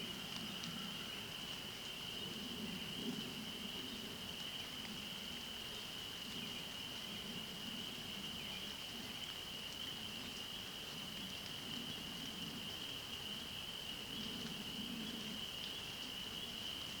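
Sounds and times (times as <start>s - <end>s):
frogs chorus: 0.0s - 17.0s.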